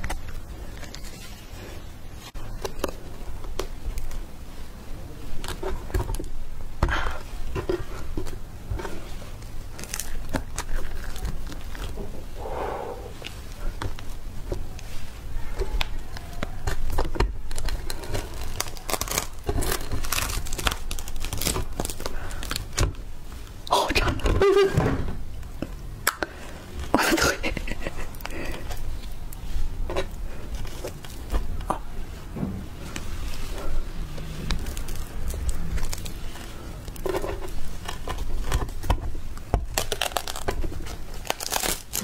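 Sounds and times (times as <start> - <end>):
husk crackling and tearing: 0.0 - 12.4, 13.1 - 42.0.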